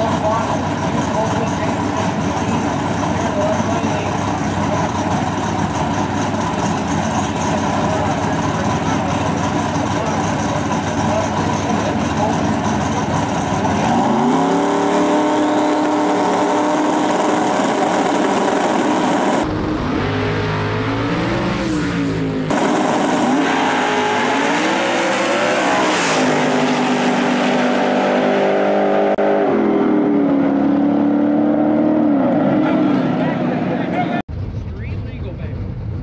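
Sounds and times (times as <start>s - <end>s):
drag race engines revving: 0.0s - 36.0s.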